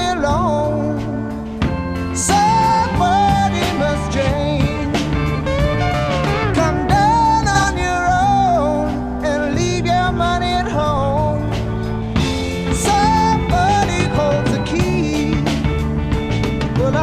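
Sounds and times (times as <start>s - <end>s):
song with guitar and beat: 0.0s - 17.0s.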